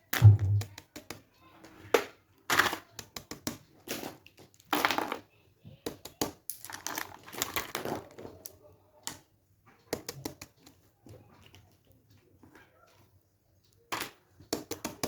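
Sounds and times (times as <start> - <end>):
plastic fidget toys clicking: 0.0 - 11.9, 13.6 - 15.0.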